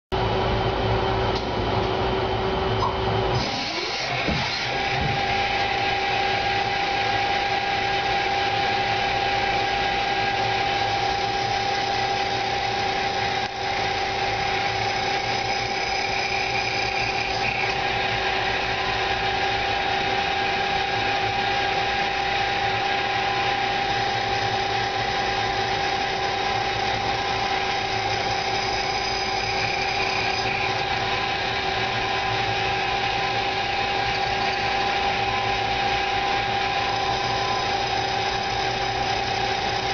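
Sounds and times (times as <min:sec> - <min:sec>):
lathe machining whine: 0:00.2 - 0:39.9.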